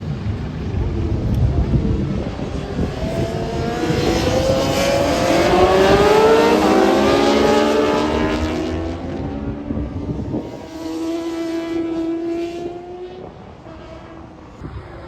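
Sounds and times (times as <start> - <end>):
racing motorcycles accelerating: 0.2 - 15.0.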